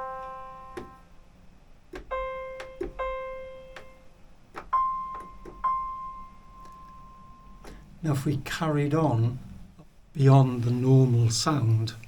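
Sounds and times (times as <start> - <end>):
piano notes ringing: 0.0 - 9.7.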